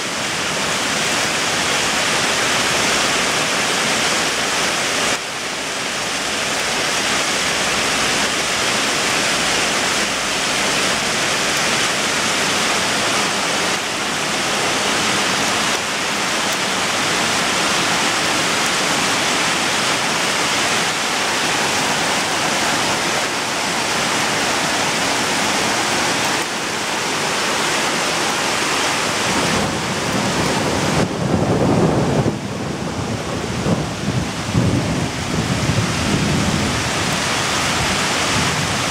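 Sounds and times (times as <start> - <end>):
hail and rain on cars: 0.0 - 38.9.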